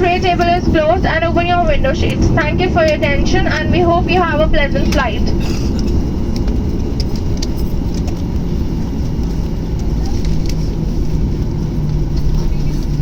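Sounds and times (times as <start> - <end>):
airliner cabin rumble: 0.0 - 13.0
steady hum: 0.0 - 13.0.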